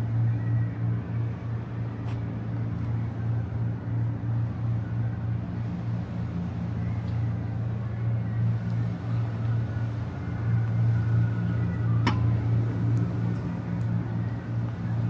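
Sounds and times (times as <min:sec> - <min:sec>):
throbbing mechanical hum: 0:00.0 - 0:15.0.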